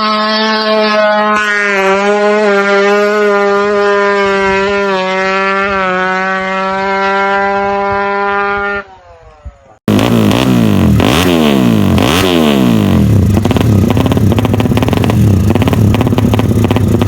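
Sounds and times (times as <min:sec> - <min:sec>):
motorcycle engine at high revs: 0:00.0 - 0:08.9, 0:09.8 - 0:17.0.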